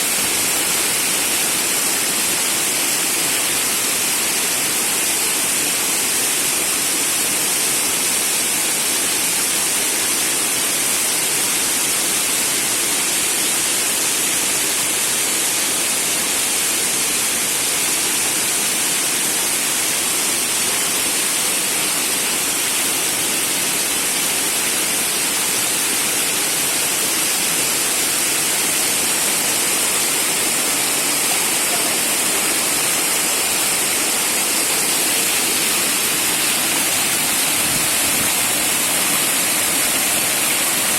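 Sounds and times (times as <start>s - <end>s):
waterfall pouring: 0.0s - 40.9s.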